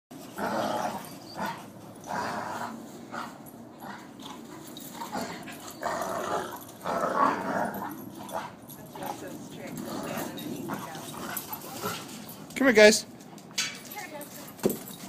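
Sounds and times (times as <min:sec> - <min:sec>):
dogs growling and snarling: 0:00.2 - 0:12.6.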